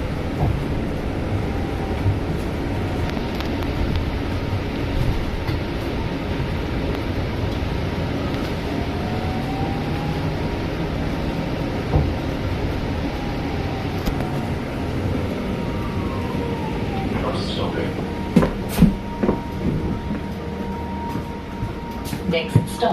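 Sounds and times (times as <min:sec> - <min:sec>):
faint rising whine: 0:00.0 - 0:22.5
bus engine rumble: 0:00.0 - 0:22.9
road noise: 0:00.0 - 0:22.9.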